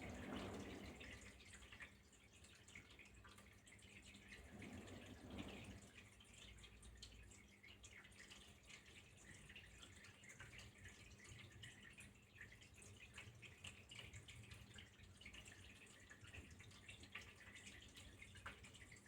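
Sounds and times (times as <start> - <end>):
water flowing and dripping: 0.0 - 19.0.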